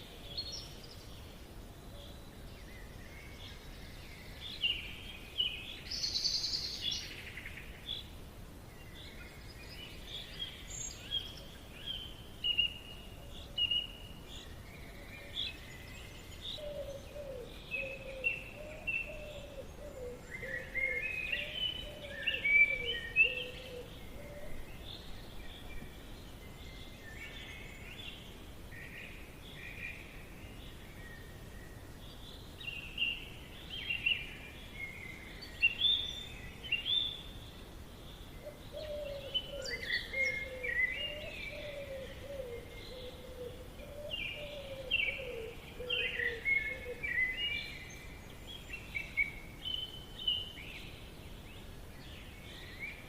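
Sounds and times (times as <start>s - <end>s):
background hiss: 0.0s - 53.0s
birds chirping: 8.7s - 53.0s.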